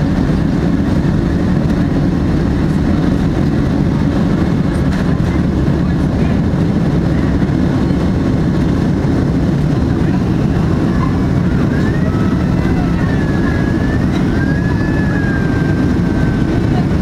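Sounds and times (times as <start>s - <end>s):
jet engines rumbling in cabin: 0.0s - 17.0s.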